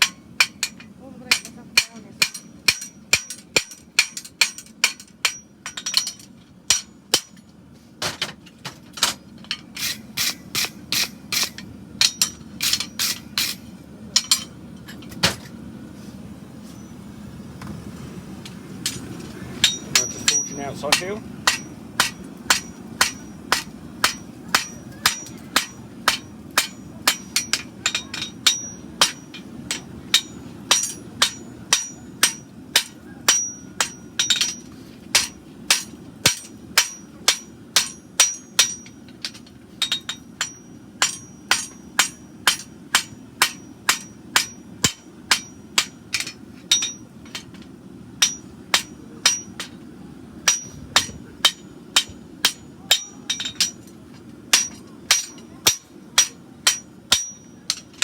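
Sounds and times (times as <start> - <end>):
hammer ringing on anvil: 0.0 - 7.4, 10.2 - 13.6, 19.6 - 47.6, 48.2 - 49.8, 50.4 - 53.9, 54.5 - 58.0.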